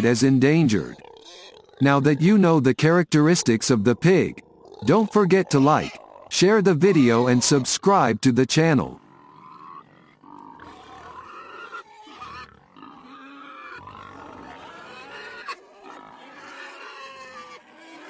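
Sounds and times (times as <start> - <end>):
pigs grunting: 0.0 - 8.0, 8.8 - 18.0.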